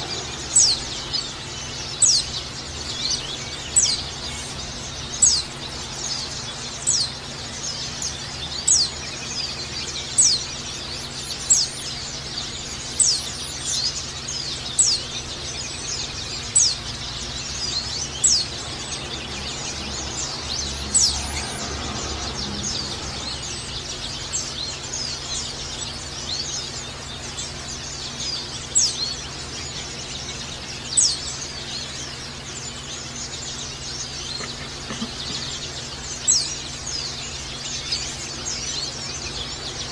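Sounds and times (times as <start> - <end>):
fast high bird twittering: 0.0 - 39.9
steady low hum: 0.0 - 39.9.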